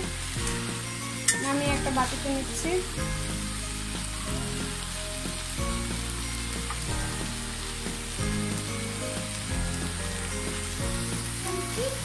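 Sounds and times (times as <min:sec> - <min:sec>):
okra sizzling in a pan: 0:00.0 - 0:12.0
soft background music: 0:00.0 - 0:12.0.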